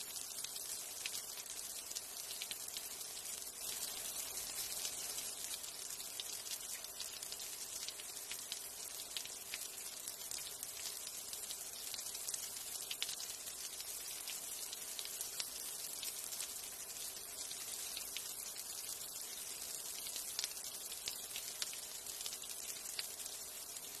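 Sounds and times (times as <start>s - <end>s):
light rain falling: 0.0s - 24.0s
raindrops ticking: 0.2s - 16.2s, 19.4s - 23.9s.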